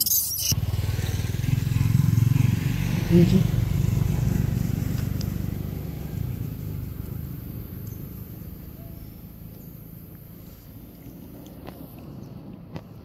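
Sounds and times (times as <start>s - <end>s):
road vehicle engine rumble: 0.0s - 13.0s.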